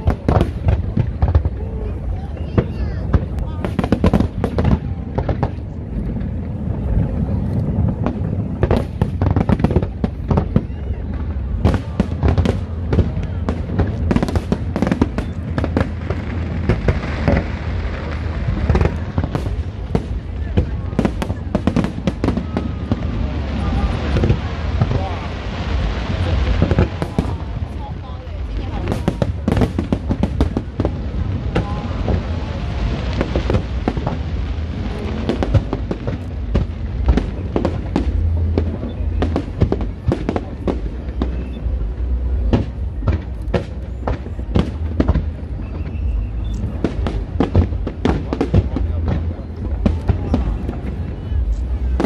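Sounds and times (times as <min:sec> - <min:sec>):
aerial fireworks bangs and crackles: 0:00.0 - 0:52.0
low rumble: 0:00.0 - 0:52.0.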